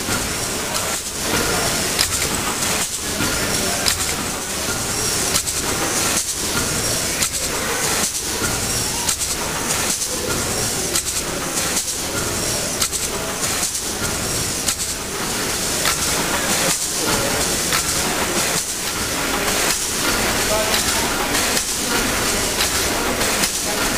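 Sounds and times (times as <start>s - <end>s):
steam engine hissing and clattering: 0.0s - 23.9s.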